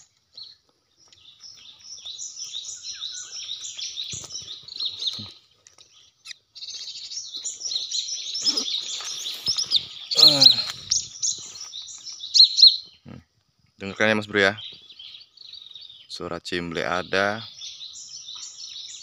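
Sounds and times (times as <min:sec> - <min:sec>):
rapid high bird chirping: 0:00.0 - 0:13.1, 0:14.0 - 0:19.0.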